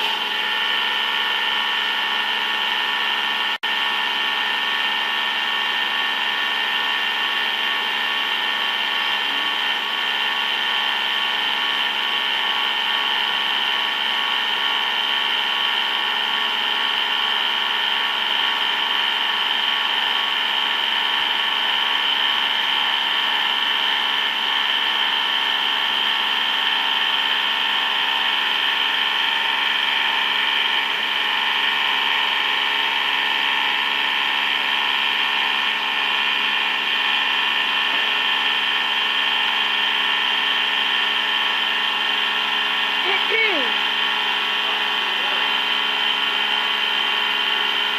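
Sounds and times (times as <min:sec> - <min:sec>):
machine tool high-pitched whine: 0:00.0 - 0:47.9.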